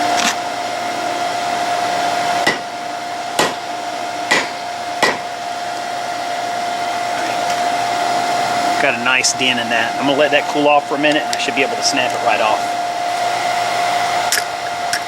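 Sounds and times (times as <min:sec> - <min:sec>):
forge air blower whining: 0:00.0 - 0:15.0.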